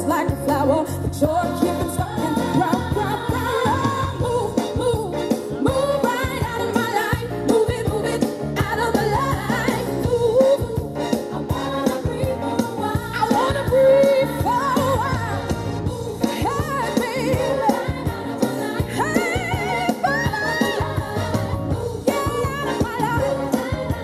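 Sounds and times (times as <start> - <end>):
pop song over sound system: 0.0 - 24.0.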